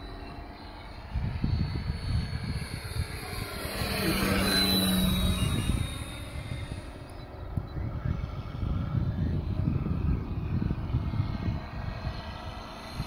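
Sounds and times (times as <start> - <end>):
model plane engine and propeller: 0.0 - 13.0
wind buffeting microphone: 0.0 - 13.0.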